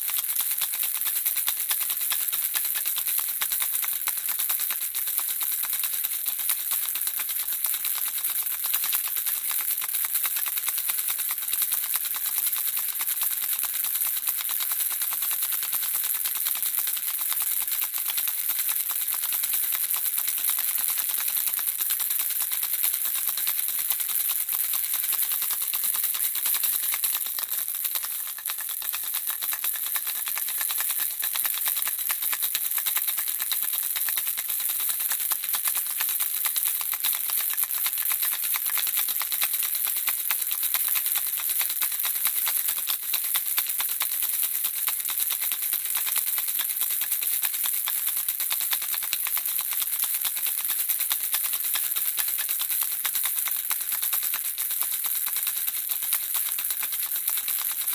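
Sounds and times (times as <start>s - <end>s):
baby rattle shaken: 0.0s - 57.9s.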